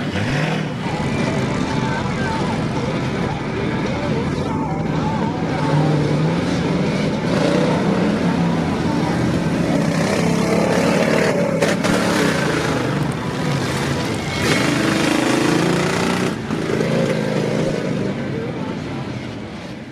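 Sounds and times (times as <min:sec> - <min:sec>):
truck engine revving hard: 0:00.0 - 0:03.4, 0:04.7 - 0:18.7
steady noisy rush: 0:00.0 - 0:19.9.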